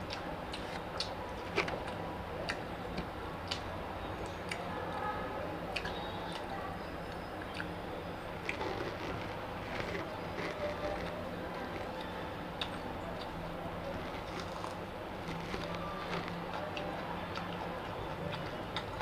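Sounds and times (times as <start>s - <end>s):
chewing clicks and smacks: 0.0s - 4.7s, 5.7s - 7.8s, 8.4s - 19.0s
low background hum: 0.0s - 19.0s.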